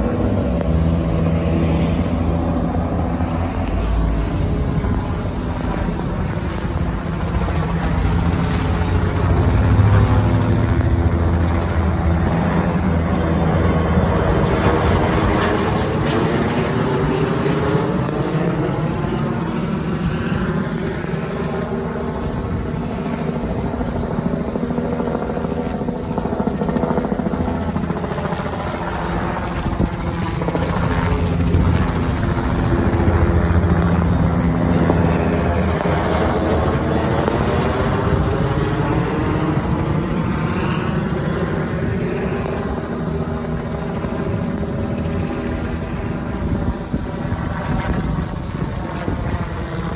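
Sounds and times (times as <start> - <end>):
helicopter rotor and engine drone: 0.0 - 49.9.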